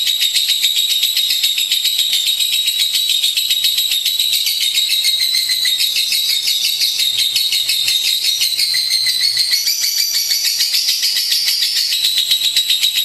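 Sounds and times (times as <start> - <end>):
lovebird chattering trill: 0.0 - 13.0.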